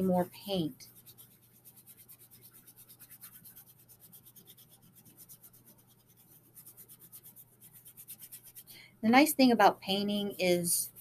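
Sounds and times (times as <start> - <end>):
paintbrush scratching on board: 0.0 - 11.0.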